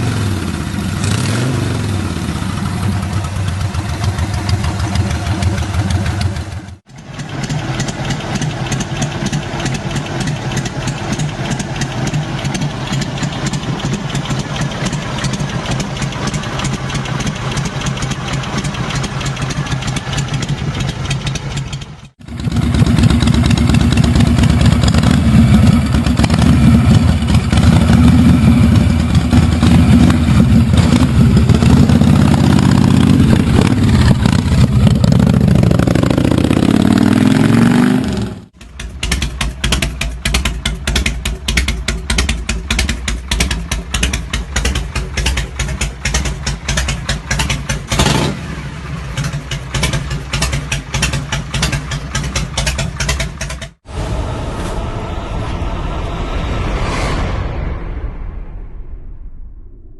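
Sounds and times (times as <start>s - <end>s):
motorcycle engines idling: 0.0s - 37.0s, 38.5s - 53.9s.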